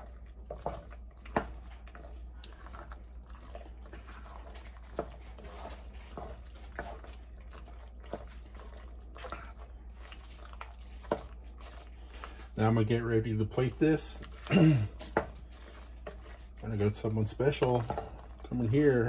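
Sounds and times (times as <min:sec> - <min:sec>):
pasta squelching in sauce: 0:00.0 - 0:19.0.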